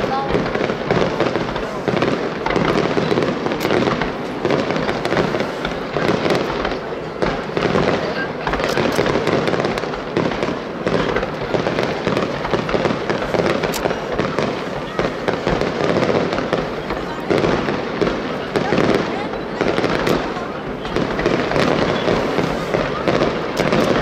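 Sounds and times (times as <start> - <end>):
firework crackling: 0.0 - 24.0
firework shells bursting: 0.0 - 24.0.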